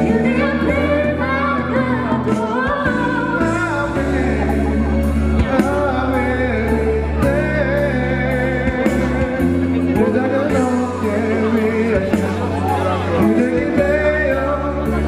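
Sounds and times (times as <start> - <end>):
group singing into microphones: 0.0 - 15.0
low bass notes: 0.0 - 15.0.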